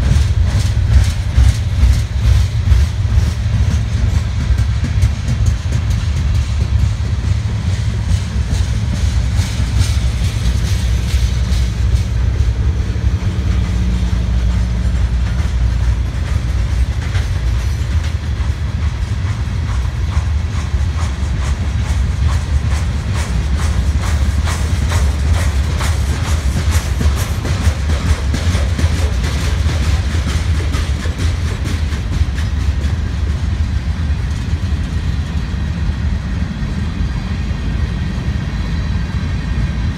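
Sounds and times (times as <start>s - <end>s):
wheels clicking over rail joints: 0.0s - 35.8s
freight train wheels rumbling: 0.0s - 39.9s.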